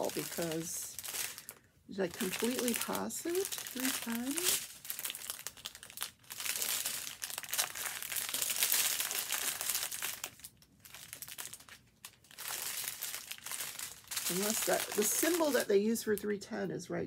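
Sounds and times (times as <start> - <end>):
plastic bags crinkling: 0.0 - 16.2.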